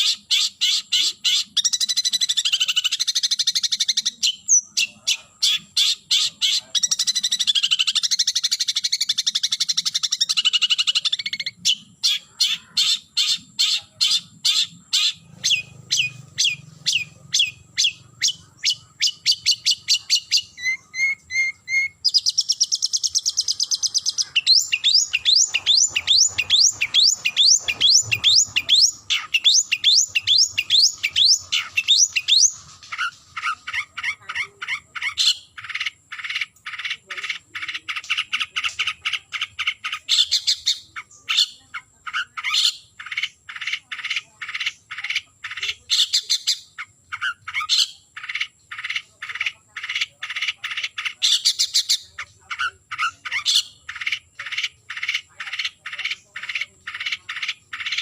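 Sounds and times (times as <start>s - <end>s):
bird singing repeated notes: 0.0s - 58.0s.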